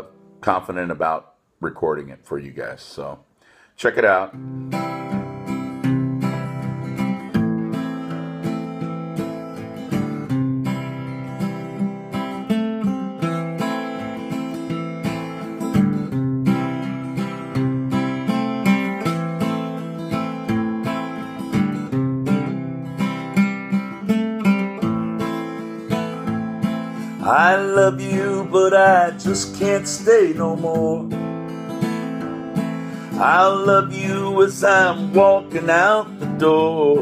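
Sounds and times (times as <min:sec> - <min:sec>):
acoustic guitar strumming: 0:00.0 - 0:01.0, 0:04.3 - 0:37.0.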